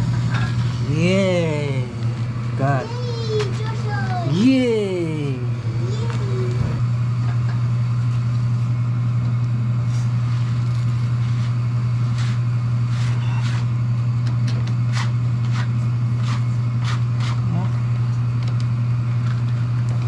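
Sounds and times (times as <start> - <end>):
gas furnace humming: 0.0 - 20.0.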